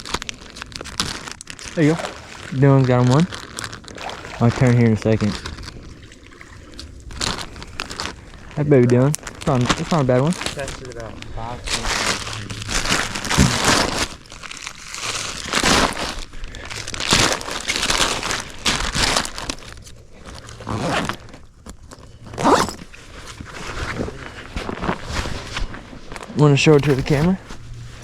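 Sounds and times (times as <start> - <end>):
crunching crinkling rustles: 0.0 - 28.0.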